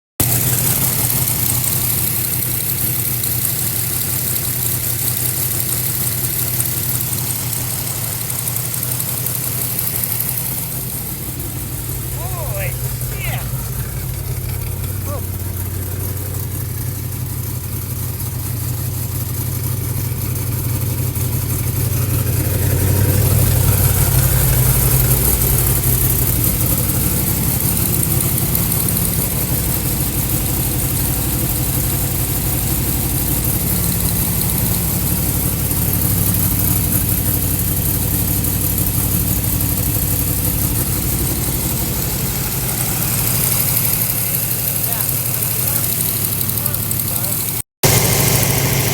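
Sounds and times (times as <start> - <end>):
car engine idling: 0.1 - 48.9.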